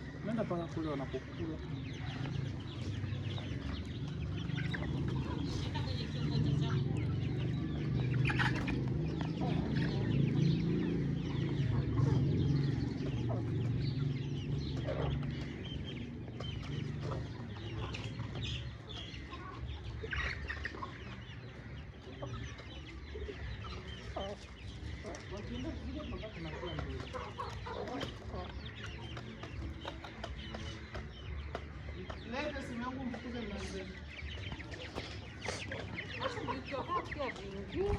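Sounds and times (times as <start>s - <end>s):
young chickens clucking and cheeping: 0.0s - 37.9s.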